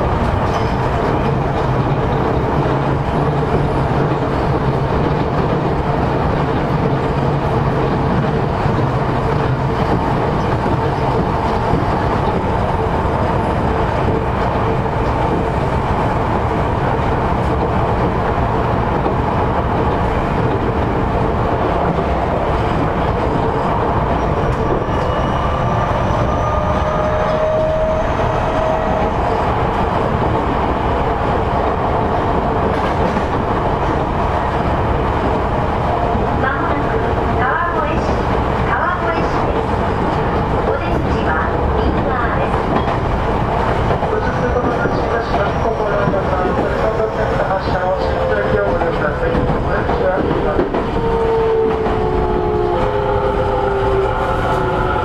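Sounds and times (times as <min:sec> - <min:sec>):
train wheels running on rail: 0:00.0 - 0:55.0.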